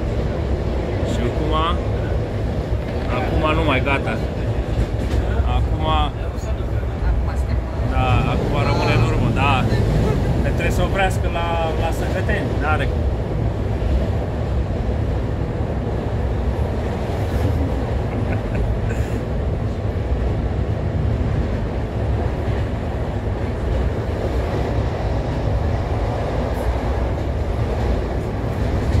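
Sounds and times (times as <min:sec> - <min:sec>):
train rumbling from inside carriage: 0:00.0 - 0:29.0.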